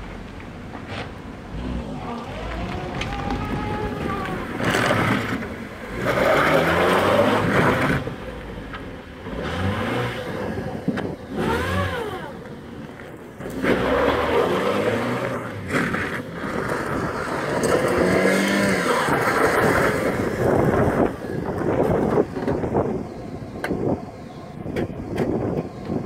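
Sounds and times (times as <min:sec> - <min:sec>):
car engine revving: 0:00.9 - 0:24.3.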